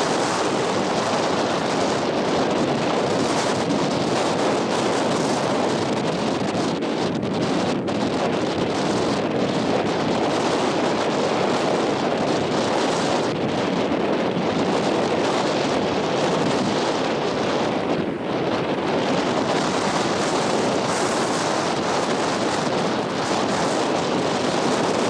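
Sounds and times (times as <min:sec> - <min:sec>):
strong wind buffeting microphone: 0:00.0 - 0:25.0.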